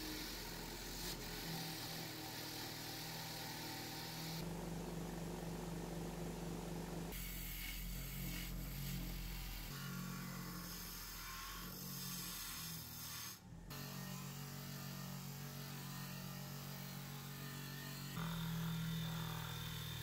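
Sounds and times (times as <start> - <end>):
bench grinder humming: 0.0 - 20.0.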